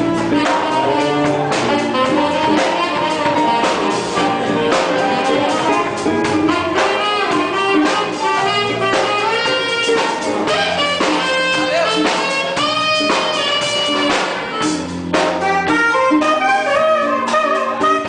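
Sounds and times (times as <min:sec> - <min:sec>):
steady drum beat: 0:00.0 - 0:18.0
wind instruments playing: 0:00.0 - 0:18.0.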